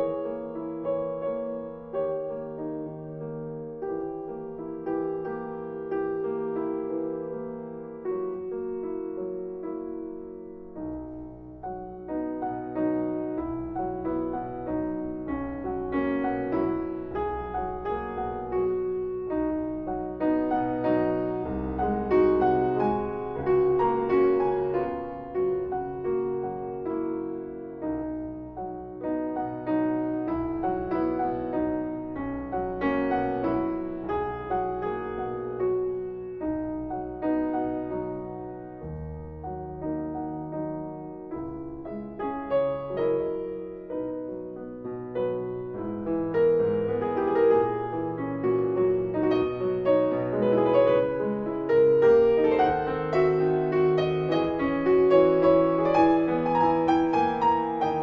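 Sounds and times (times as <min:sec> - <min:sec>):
slow piano music: 0:00.0 - 0:58.0.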